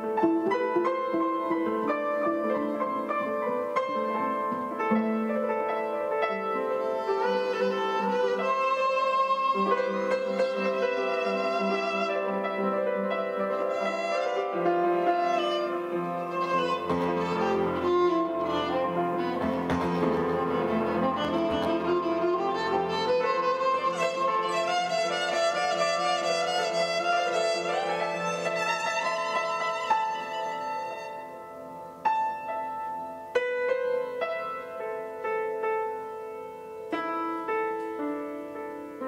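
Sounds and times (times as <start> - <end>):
violin bowed: 0.0 - 34.4
piano accompanying: 0.0 - 39.0.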